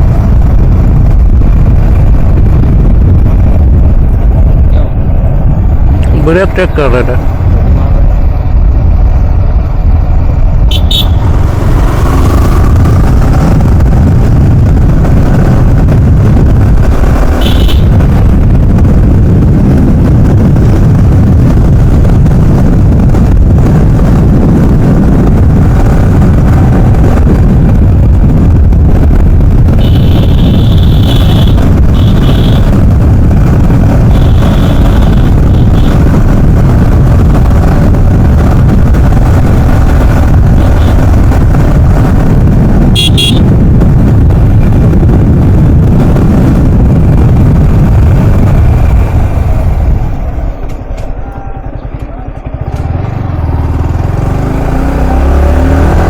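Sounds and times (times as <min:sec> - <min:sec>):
vehicle engine and road noise: 0:00.0 - 0:56.0
wind buffeting microphone: 0:00.0 - 0:56.0.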